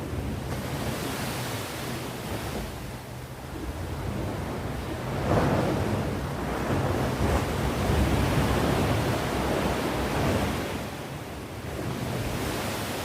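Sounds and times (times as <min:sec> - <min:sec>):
sea waves breaking on shore: 0:00.0 - 0:13.0.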